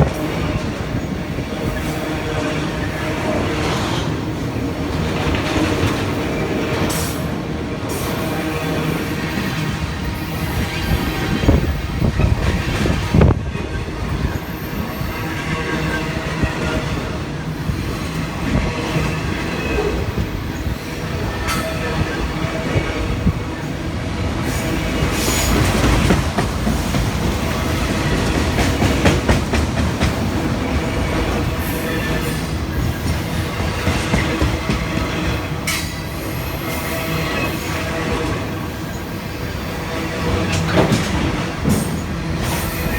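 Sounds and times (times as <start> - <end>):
freight train wheels rolling on rails: 0.0 - 42.9.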